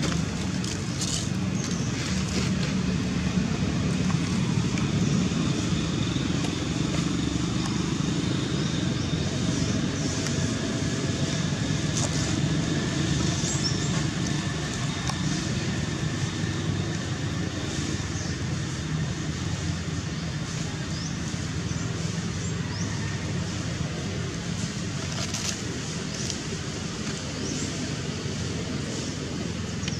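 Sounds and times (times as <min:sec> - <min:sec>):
motor vehicle rumble: 0:00.0 - 0:29.9.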